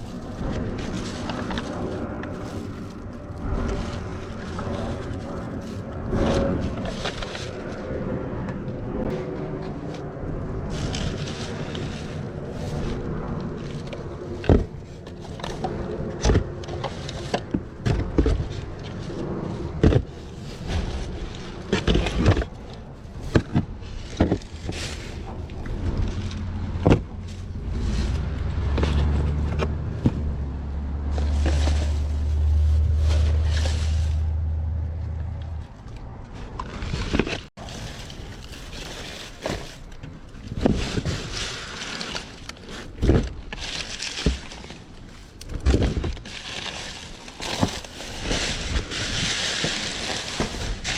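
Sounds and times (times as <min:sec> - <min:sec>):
low rumble: 0:00.0 - 0:50.9
scraping and rustling: 0:00.0 - 0:50.9.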